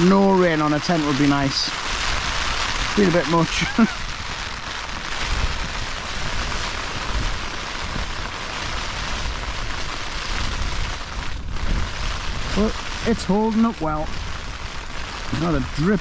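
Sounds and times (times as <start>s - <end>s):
heavy rain on tent fabric: 0.0s - 16.0s.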